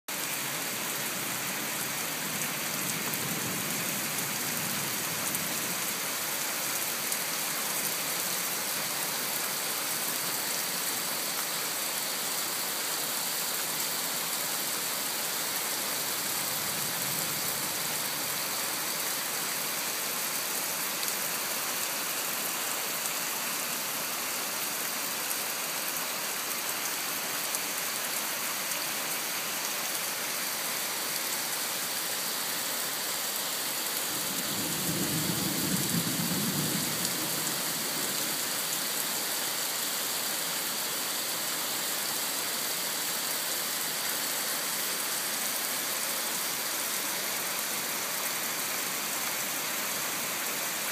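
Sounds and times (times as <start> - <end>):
heavy rain pouring: 0.1 - 50.9.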